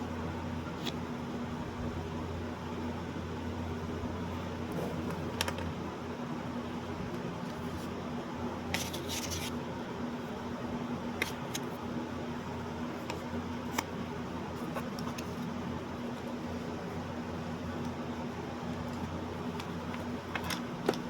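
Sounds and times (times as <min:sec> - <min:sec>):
room noise hum and hiss: 0:00.0 - 0:21.0.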